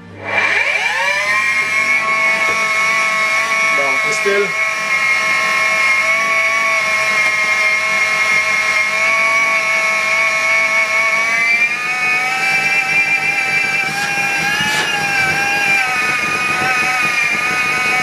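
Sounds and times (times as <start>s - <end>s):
vacuum cleaner whining: 0.0s - 18.0s.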